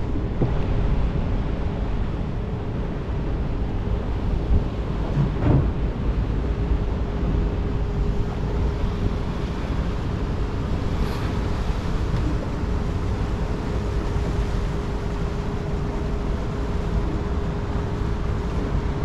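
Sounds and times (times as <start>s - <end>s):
ferry engine rumbling: 0.0s - 19.0s
wind on microphone: 0.0s - 19.0s.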